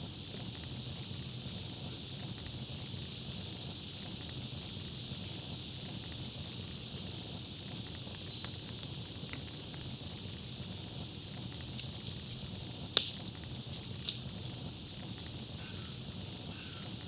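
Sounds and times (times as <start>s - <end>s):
campfire crackling: 0.0s - 17.0s
steady hiss: 0.0s - 17.0s.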